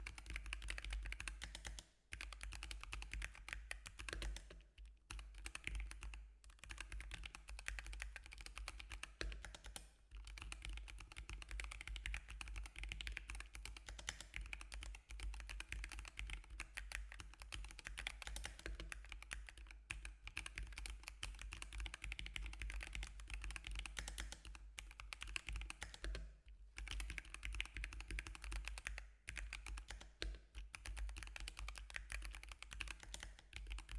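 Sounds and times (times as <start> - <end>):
mechanical keyboard typing: 0.0 - 26.2, 26.8 - 33.9.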